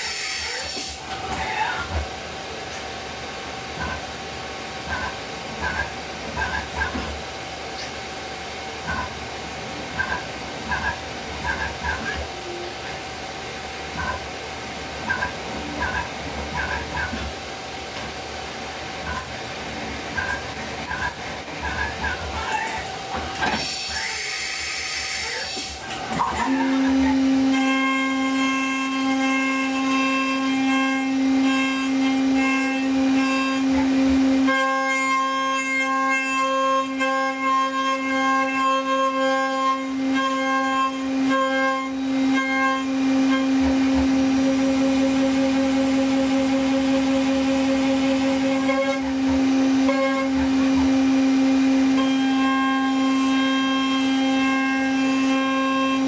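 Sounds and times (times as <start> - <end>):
milling machine whine: 0.0 - 56.0.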